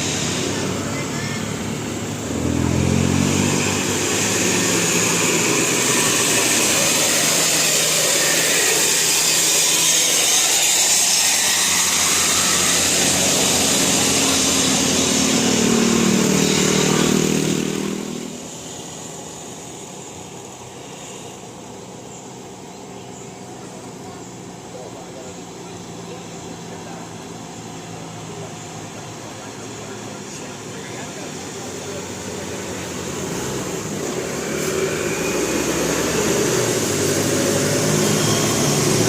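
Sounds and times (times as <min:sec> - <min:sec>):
background traffic: 0:00.0 - 0:39.0
vehicles passing close by: 0:00.0 - 0:39.0.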